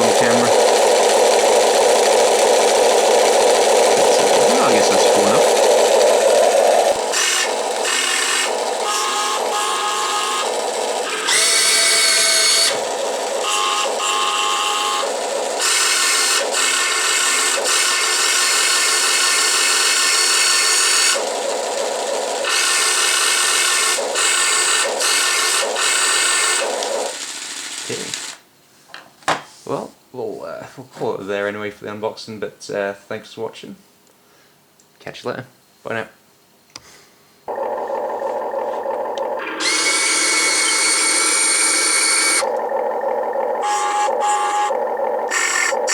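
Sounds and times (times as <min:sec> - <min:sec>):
electric gear motors whining: 0:00.0 - 0:28.4, 0:37.5 - 0:45.9
simulated engine from small speaker: 0:00.0 - 0:28.4, 0:37.5 - 0:45.9.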